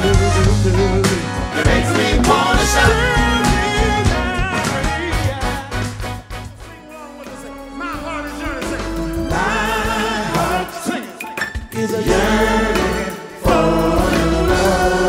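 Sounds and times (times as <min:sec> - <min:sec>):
live band music: 0:00.0 - 0:15.0
male vocal group singing: 0:00.0 - 0:15.0.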